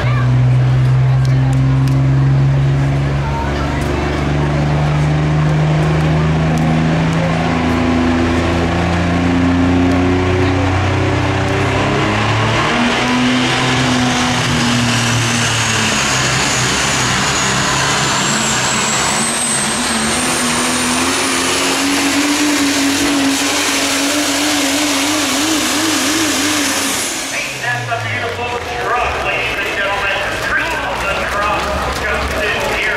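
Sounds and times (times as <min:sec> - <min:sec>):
diesel truck engine flat out: 0:00.0 - 0:32.9.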